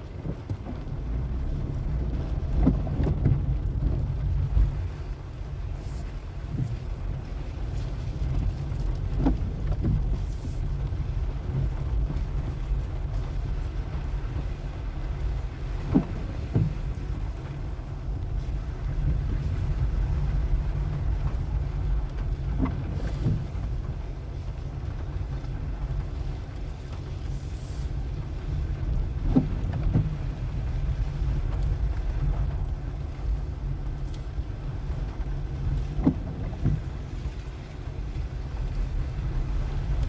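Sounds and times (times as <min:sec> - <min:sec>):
engine and tyres rumbling: 0:00.0 - 0:40.0.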